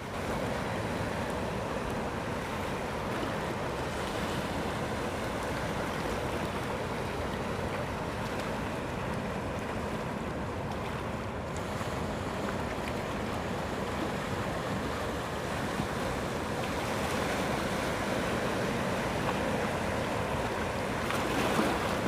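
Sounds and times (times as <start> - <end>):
rough sea surf: 0.0 - 22.0.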